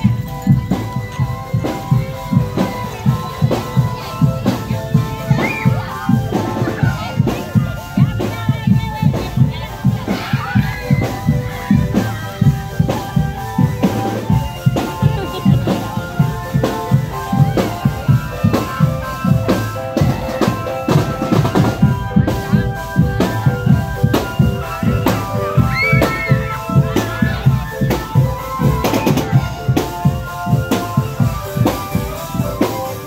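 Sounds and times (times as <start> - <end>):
drum band playing: 0.0 - 33.0
held melody notes: 0.0 - 33.0.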